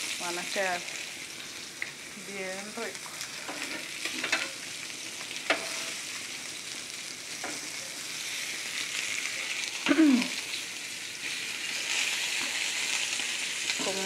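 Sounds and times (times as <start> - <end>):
meat sizzling on a griddle: 0.0 - 14.0.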